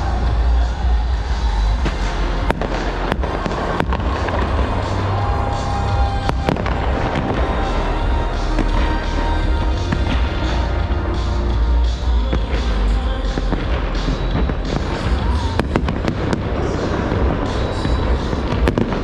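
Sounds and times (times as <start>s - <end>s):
fireworks launching and bursting: 0.0s - 19.0s
sharp firework cracks: 0.0s - 19.0s.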